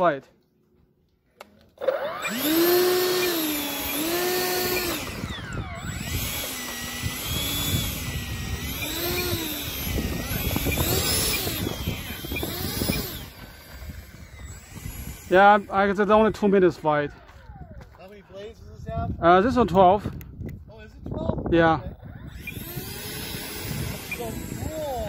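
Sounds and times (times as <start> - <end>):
electric ducted fan whining: 1.8 - 18.6, 20.4 - 25.0.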